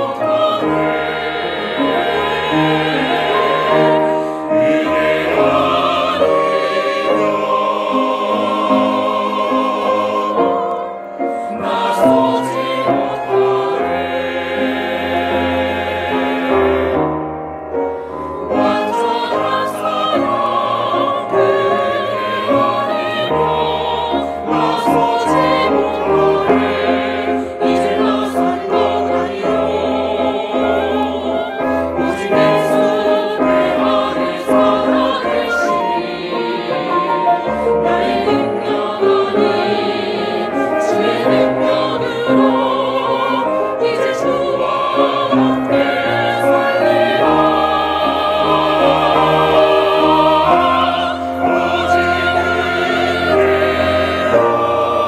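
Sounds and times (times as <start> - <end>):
mixed choir singing in harmony: 0.0 - 55.0
piano accompaniment: 0.0 - 55.0.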